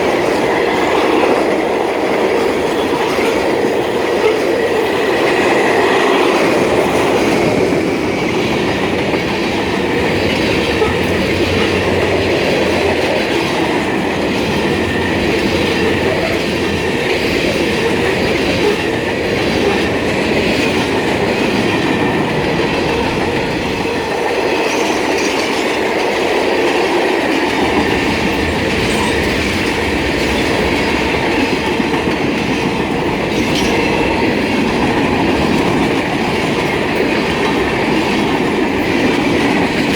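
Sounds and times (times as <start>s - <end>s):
train wheel squealing: 0.0s - 39.9s
train wheels clattering on rails: 0.0s - 39.9s.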